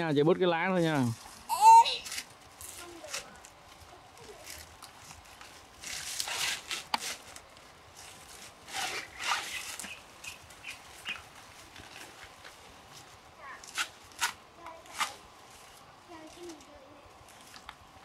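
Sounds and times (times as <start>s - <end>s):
leaves rustling and ripping: 0.8s - 17.8s.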